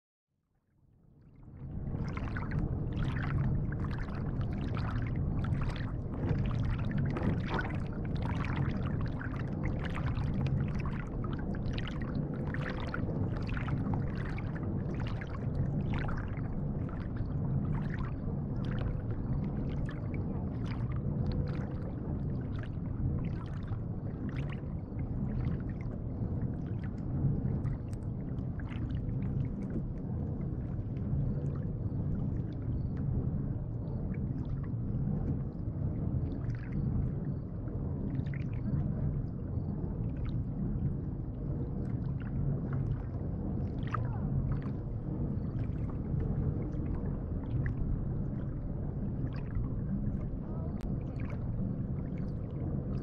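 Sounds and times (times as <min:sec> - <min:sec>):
water lapping against kayak bow: 0:01.6 - 0:53.0.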